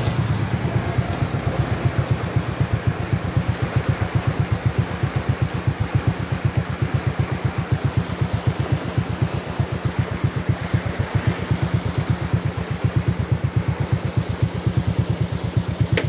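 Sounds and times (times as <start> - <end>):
motorcycle engine idling: 0.0 - 16.0
stream running over rocks: 0.0 - 16.0.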